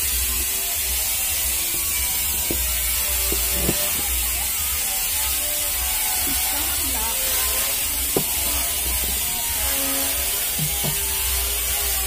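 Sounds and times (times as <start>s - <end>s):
small parts clicking and knocking: 0.0s - 12.0s.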